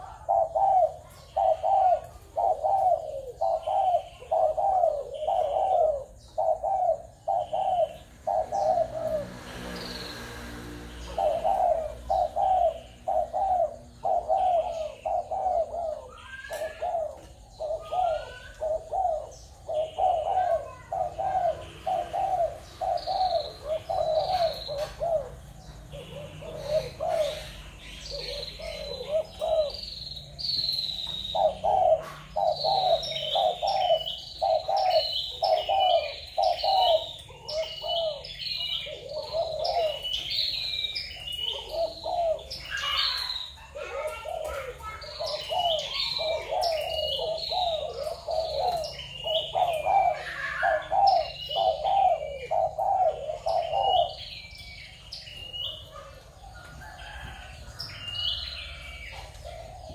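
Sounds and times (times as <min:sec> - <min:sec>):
doves cooing: 0:00.0 - 0:59.9
small bird chirping: 0:00.0 - 0:59.9.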